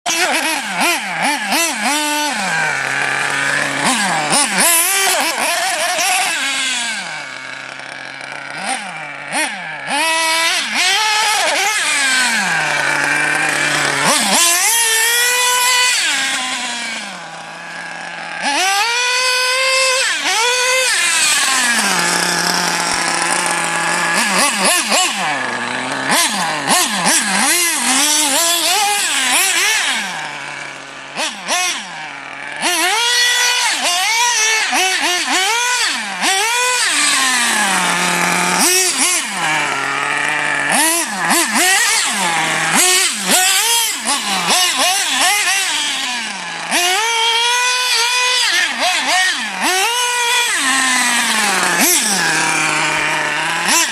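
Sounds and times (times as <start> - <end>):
rc car motor revving: 0.0 - 53.9.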